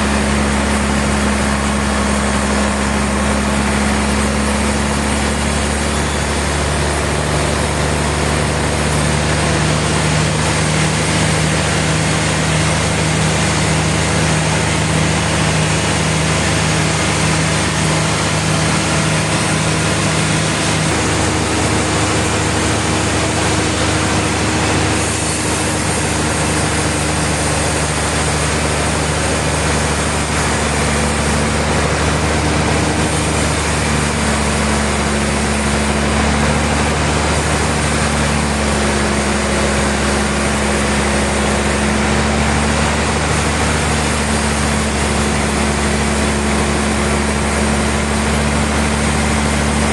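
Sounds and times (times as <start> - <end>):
sawmill machinery humming: 0.0 - 49.9
constant rushing noise: 8.4 - 49.9.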